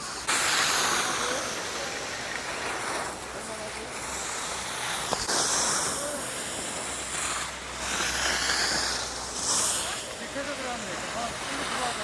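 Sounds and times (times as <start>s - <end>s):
skis scraping over snow: 0.0s - 12.0s.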